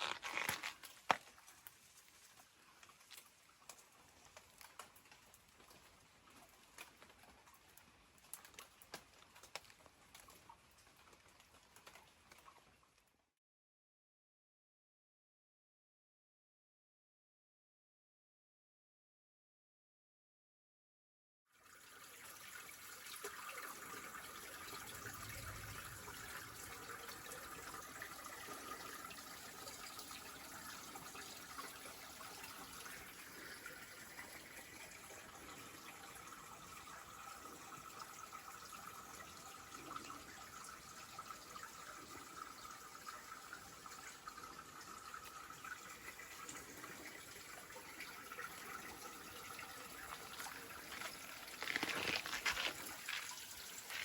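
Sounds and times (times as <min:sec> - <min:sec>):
forest stream trickling: 0:00.0 - 0:13.3, 0:21.5 - 0:54.0.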